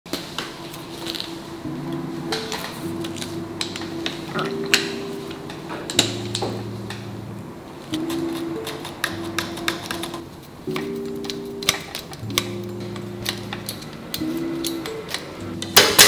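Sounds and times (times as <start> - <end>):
soft background music chords: 0.1 - 16.0.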